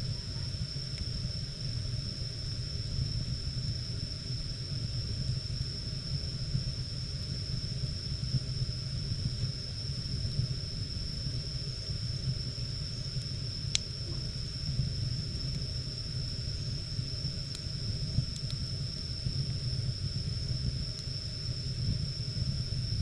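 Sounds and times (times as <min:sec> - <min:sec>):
fire crackle: 0:00.0 - 0:23.0
wood fire rumbling: 0:00.0 - 0:23.0.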